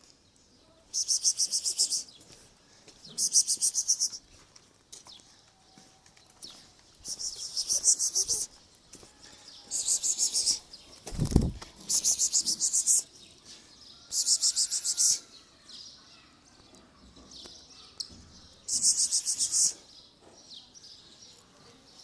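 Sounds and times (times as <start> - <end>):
sparrows chirping: 0.0 - 22.0.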